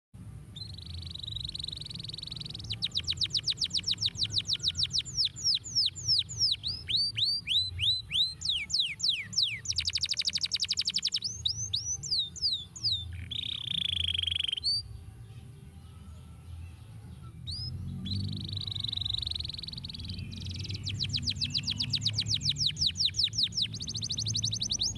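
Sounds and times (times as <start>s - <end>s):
canary singing: 0.5s - 24.9s.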